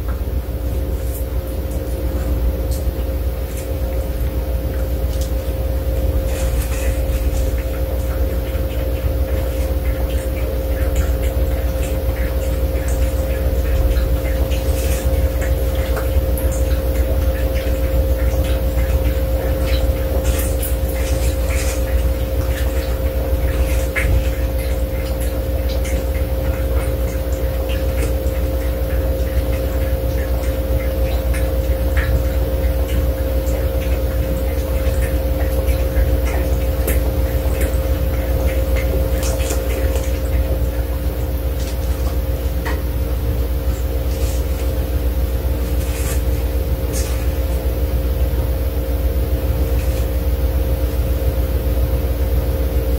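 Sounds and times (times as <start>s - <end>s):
low hum with held tones: 0.0s - 52.9s.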